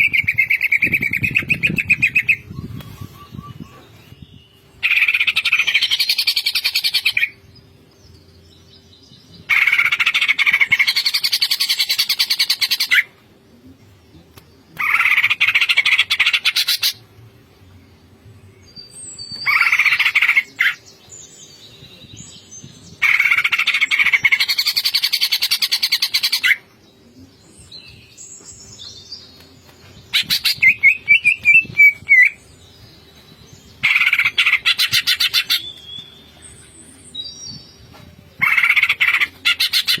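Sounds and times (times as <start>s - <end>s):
bird singing chattering song: 0.0s - 13.1s, 17.7s - 40.0s.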